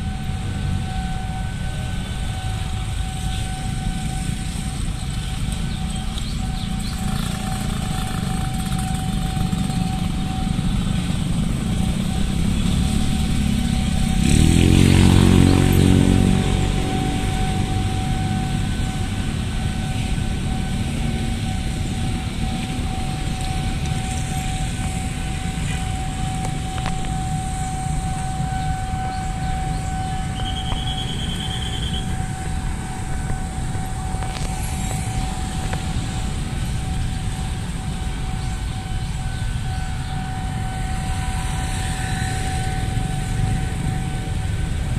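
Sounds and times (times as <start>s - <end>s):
loud engine passing close: 0.0s - 44.9s
motorcycles passing: 0.0s - 44.9s.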